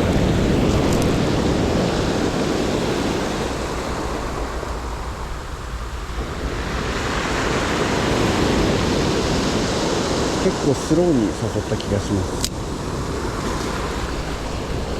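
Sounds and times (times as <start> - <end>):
ocean surf washing onto beach: 0.0 - 14.9.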